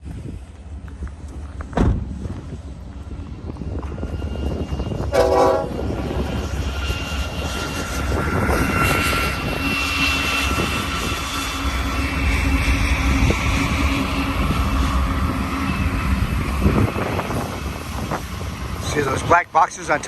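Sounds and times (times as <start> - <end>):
diesel locomotives rumbling past: 0.0 - 20.0
high-pitched squeal: 3.3 - 20.0.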